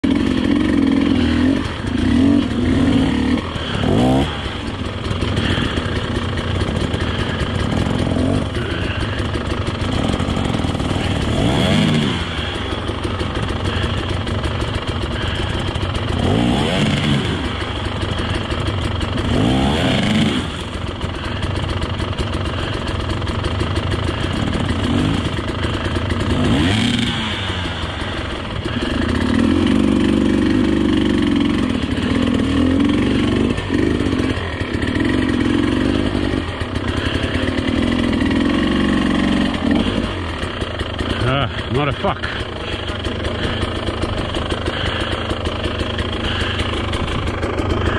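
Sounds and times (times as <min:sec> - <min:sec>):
dirt bike engines chugging: 0:00.0 - 0:47.9.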